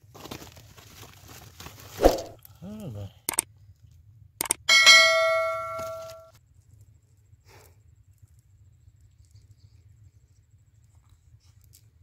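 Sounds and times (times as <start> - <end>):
faint low outdoor rumble: 0.0 - 4.6, 5.2 - 12.0.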